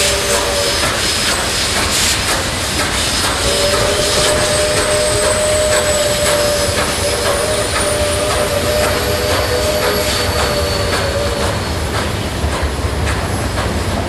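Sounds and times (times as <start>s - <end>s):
model steam train rushing: 0.0s - 14.0s.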